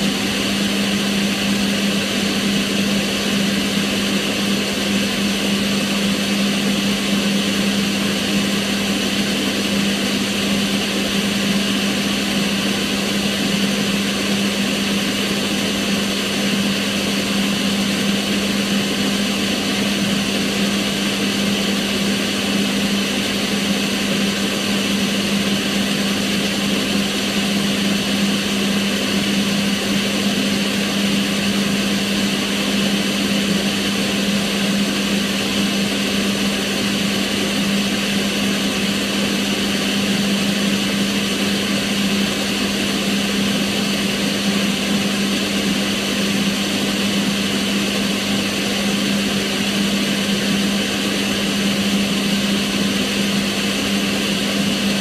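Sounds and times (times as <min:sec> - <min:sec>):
extractor fan air rush: 0:00.0 - 0:55.0
fan motor hum: 0:00.0 - 0:55.0.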